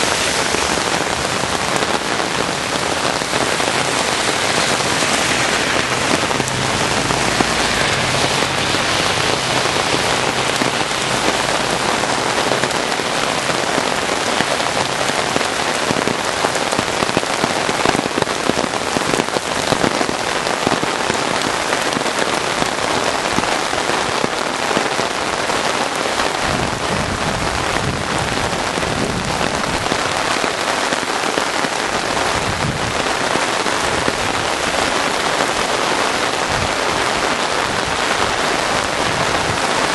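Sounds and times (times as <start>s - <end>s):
steady rain on pavement: 0.0s - 39.9s.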